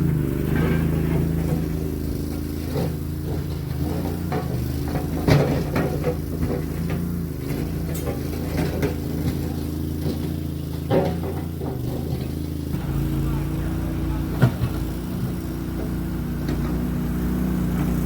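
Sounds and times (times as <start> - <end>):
skid steer engine running: 0.0 - 18.0
knocks and clanks: 0.4 - 13.2, 14.2 - 16.8.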